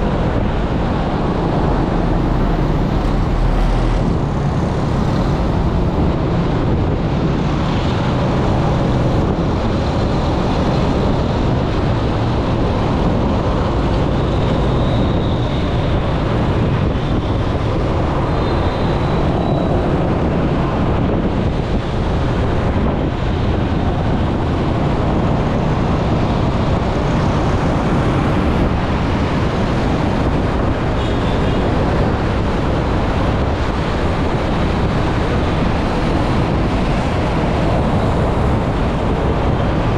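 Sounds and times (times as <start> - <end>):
moving vehicle rushing noise: 0.0 - 39.9
wind buffeting microphone: 0.0 - 39.9.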